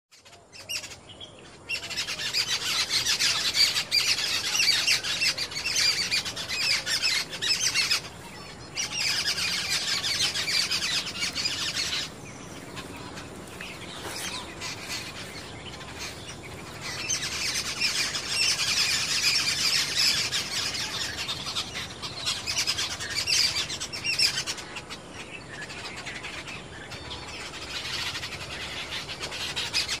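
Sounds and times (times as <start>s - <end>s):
birds chattering harshly: 0.1s - 30.0s.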